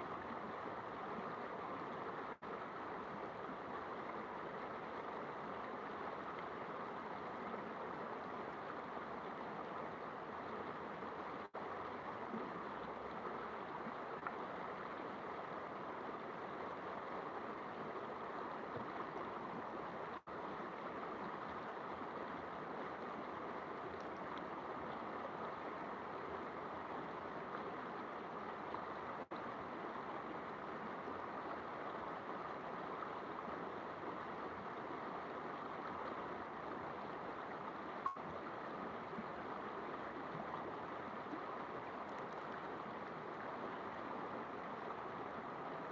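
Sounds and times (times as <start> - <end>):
flowing river water: 0.0 - 45.9.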